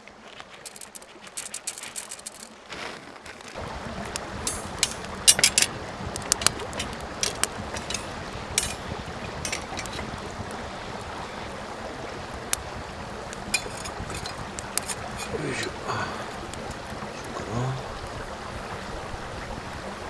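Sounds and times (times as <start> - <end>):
wood fire crackling and popping: 0.0 - 18.3.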